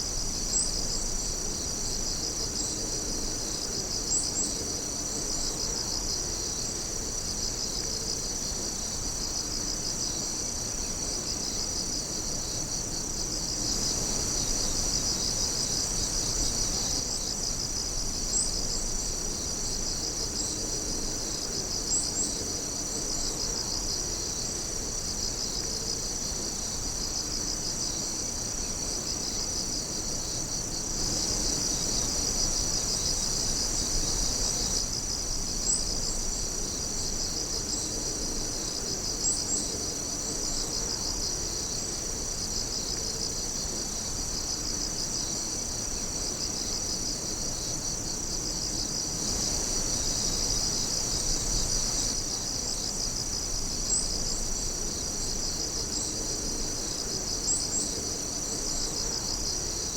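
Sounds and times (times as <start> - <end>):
night insects chirping: 0.0 - 59.9.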